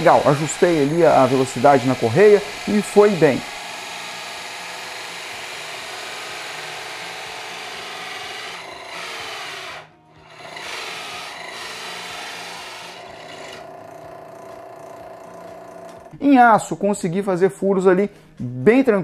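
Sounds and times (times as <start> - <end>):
drill press motor hum: 0.0 - 16.2
hole saw rasping through wood: 0.0 - 16.2.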